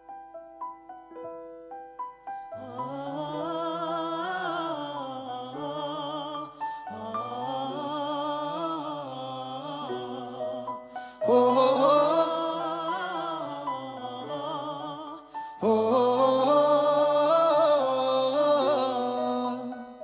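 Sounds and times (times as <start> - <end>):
man singing wordless melody: 2.6 - 20.0.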